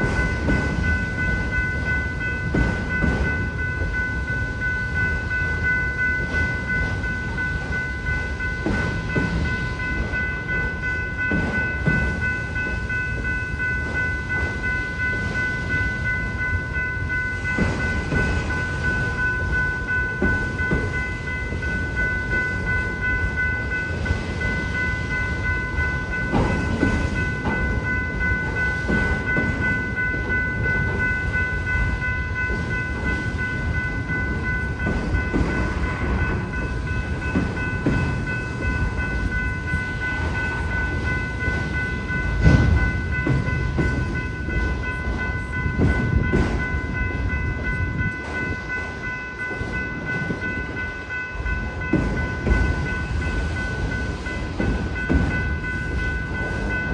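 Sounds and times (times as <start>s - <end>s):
crossing warning bell ringing: 0.0s - 56.9s
train wheels rumbling on rails: 0.0s - 56.9s.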